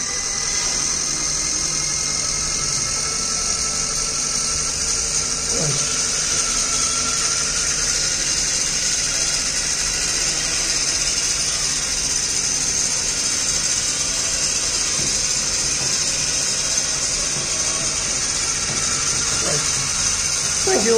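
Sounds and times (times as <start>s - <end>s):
small motor whirring: 0.0s - 20.9s.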